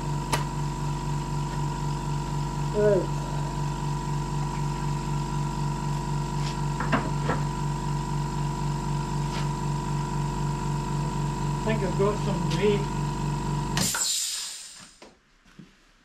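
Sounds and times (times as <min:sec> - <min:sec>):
electric machine hum pulsing: 0:00.0 - 0:14.0.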